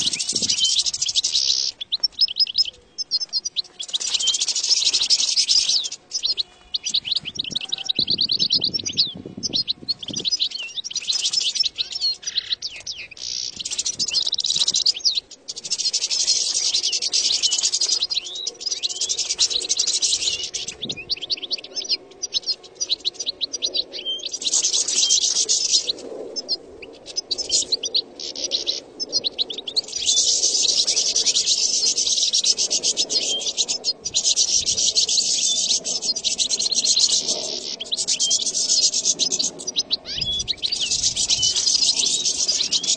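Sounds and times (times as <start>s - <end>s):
bird twittering song: 0.0s - 42.9s.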